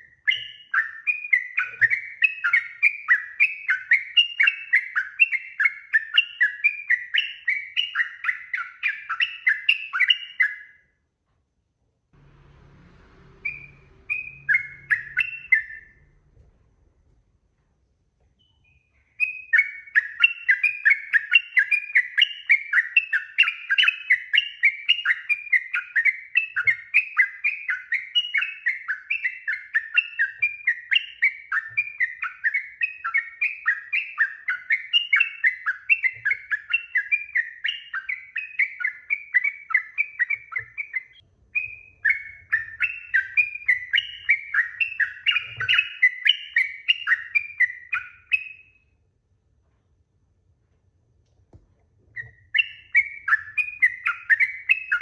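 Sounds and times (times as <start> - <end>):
bulbul singing: 0.0 - 10.8, 12.2 - 16.2, 18.4 - 49.0, 52.2 - 55.0.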